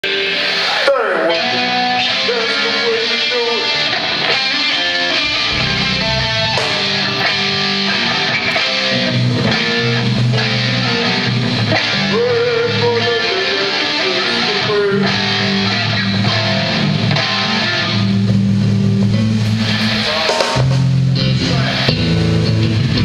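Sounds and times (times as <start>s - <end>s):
guitar music: 0.0s - 23.0s.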